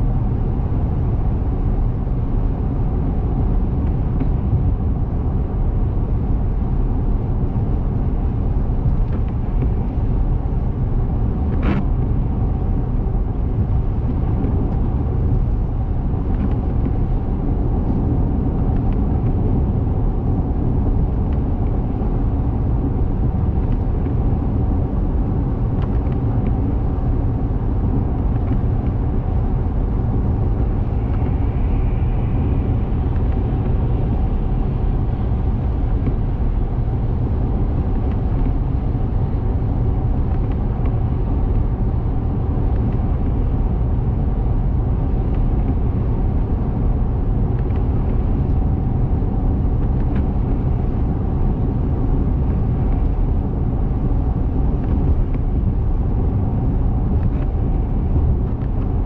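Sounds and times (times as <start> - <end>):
car road noise from inside: 0.0 - 59.0.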